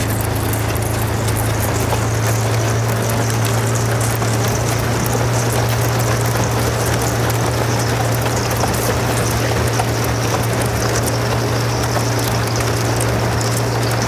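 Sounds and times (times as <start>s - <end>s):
boat motor running: 0.0s - 14.0s
ice crackling and clinking: 0.0s - 14.0s.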